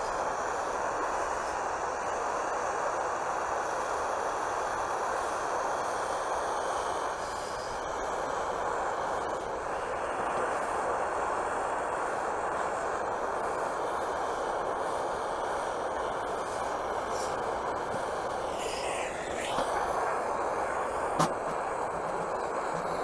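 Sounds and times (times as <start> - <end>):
burner flame hissing: 0.0 - 23.0.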